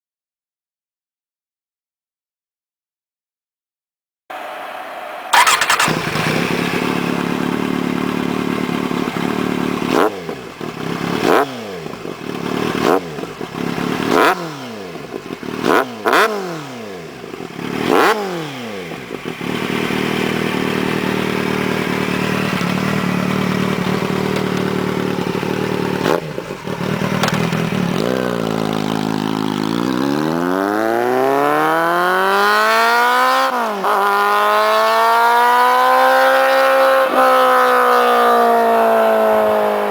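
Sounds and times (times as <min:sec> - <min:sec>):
motorcycle engine revving: 0:04.4 - 0:39.9.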